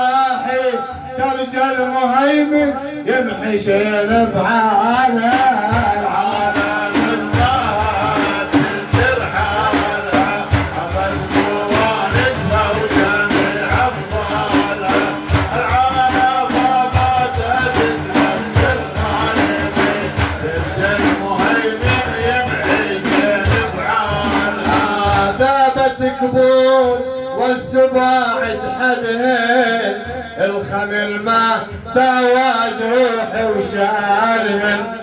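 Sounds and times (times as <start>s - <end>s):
voices singing: 3.1s - 35.0s
frame drums beating: 4.0s - 34.2s.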